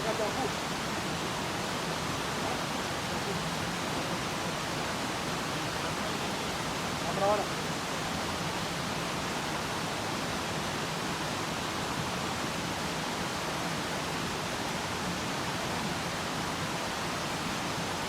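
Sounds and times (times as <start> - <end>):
mountain stream flowing: 0.0 - 18.0.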